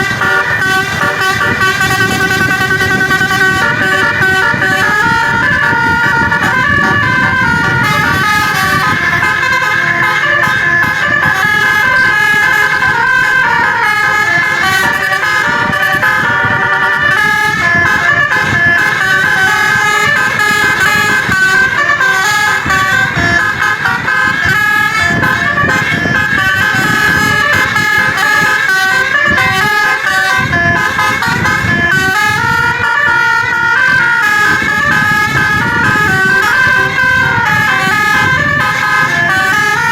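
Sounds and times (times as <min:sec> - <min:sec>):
musical air horn melody: 0:00.0 - 0:39.9.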